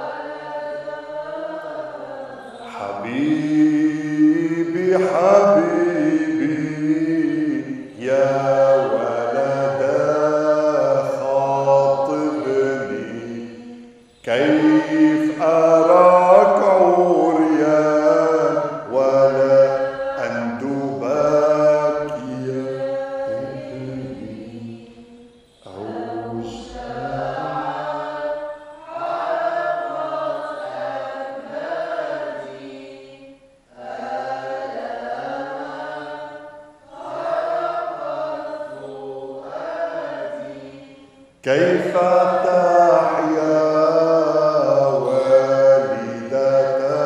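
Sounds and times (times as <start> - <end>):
person chanting a slow hymn: 0.0 - 47.0.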